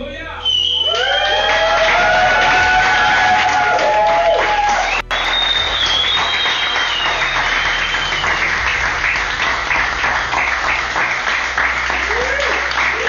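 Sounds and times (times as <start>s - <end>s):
people clapping: 0.6s - 13.0s
high held note: 1.0s - 13.0s.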